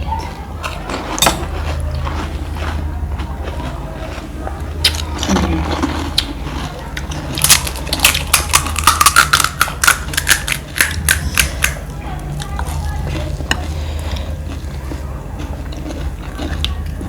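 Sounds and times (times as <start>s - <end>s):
steady low hum: 0.0s - 17.0s
crunchy snack chewing: 0.6s - 17.0s.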